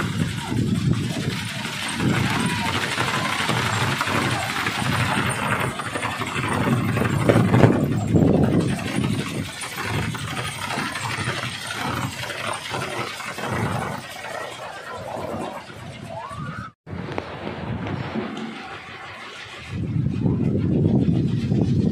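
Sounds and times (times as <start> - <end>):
wind propeller droning rumble: 0.0 - 21.9.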